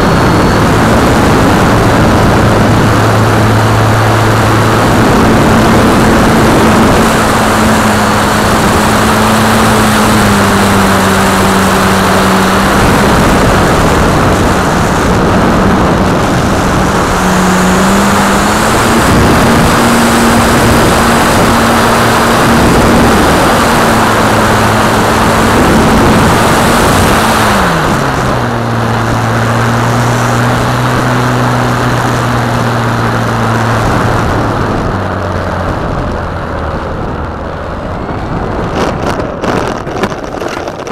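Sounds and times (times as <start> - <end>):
electric motor and propeller drone: 0.0 - 40.9
rushing air noise: 0.0 - 40.9.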